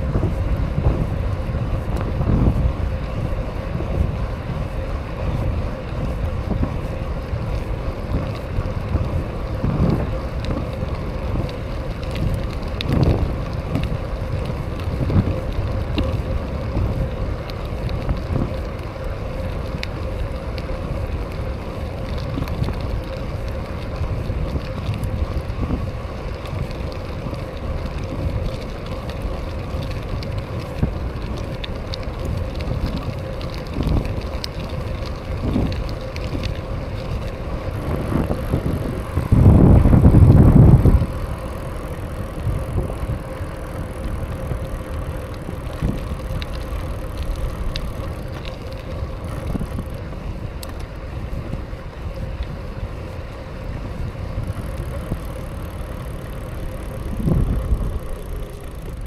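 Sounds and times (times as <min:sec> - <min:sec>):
bike tyres rolling: 0:00.0 - 0:59.0
wind on microphone: 0:00.0 - 0:59.0.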